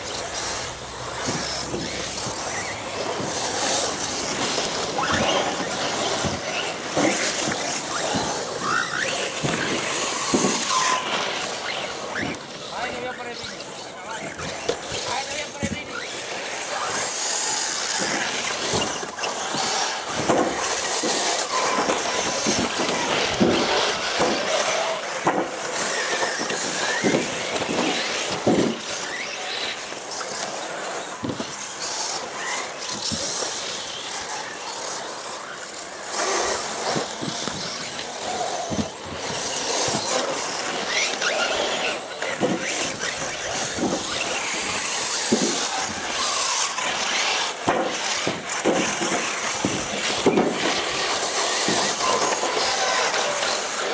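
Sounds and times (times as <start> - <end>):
rc car motors whining: 0.0 - 53.9
tyres squealing: 0.0 - 53.9.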